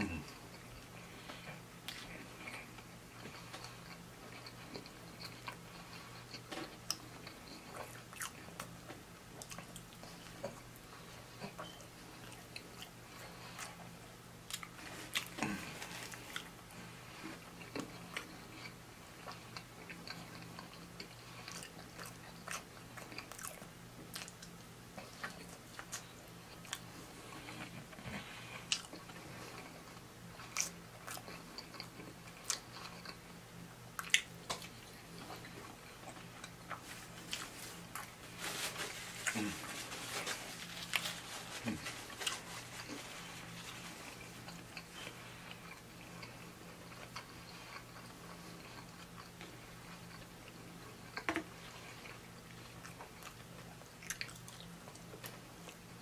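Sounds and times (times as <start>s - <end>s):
faint low hum: 0.0s - 56.0s
person chewing food: 0.0s - 56.0s.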